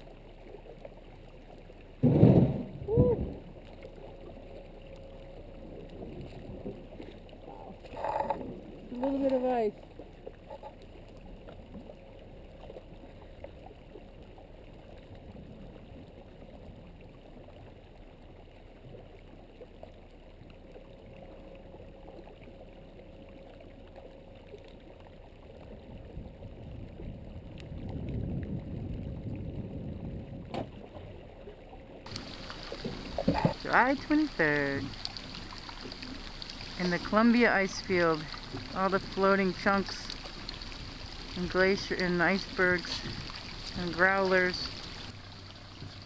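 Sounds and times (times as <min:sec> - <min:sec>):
water rushing along hull: 0:00.0 - 0:46.0.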